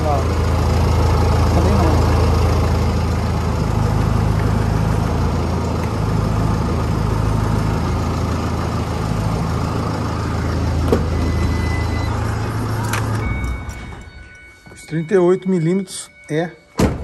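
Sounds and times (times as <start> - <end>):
pickup truck engine idling: 0.0 - 17.0.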